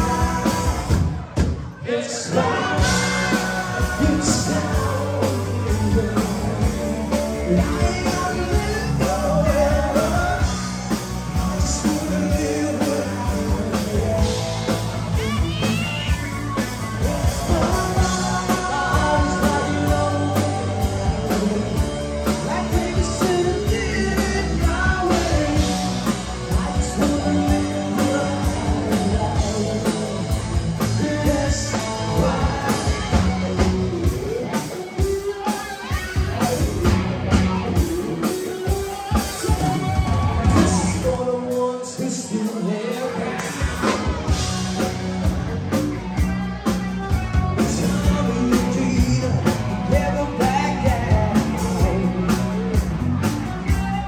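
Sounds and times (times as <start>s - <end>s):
person singing: 0.0s - 1.2s, 1.8s - 54.0s
rock band playing live: 0.0s - 54.0s.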